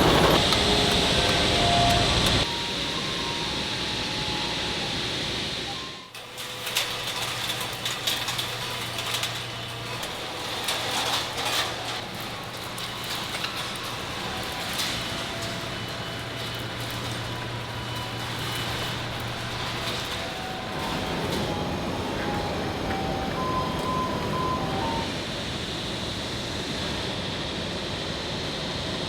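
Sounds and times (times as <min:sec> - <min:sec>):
machinery running: 0:00.0 - 0:29.0.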